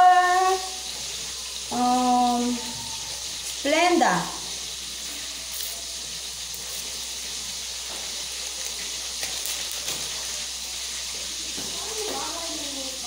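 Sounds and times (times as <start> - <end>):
food hissing on stove: 0.0 - 13.0.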